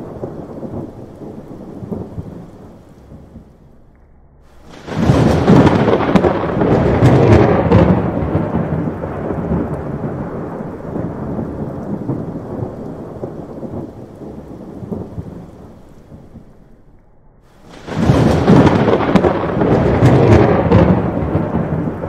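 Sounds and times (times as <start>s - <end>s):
thunder clap: 0.0s - 22.0s
thunder rumbling: 0.0s - 22.0s.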